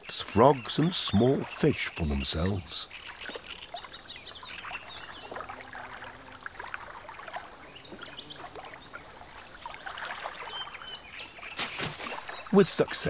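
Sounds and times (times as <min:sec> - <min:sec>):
water lapping among reeds: 0:00.0 - 0:13.0.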